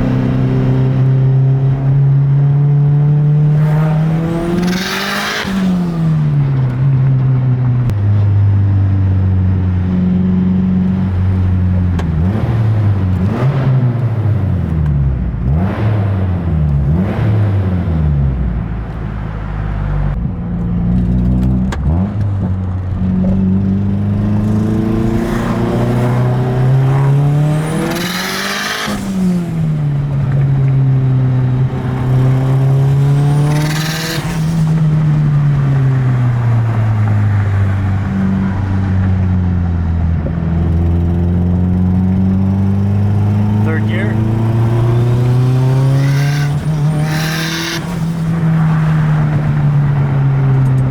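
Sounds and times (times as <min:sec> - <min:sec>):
car engine accelerating hard: 0:00.0 - 0:50.9.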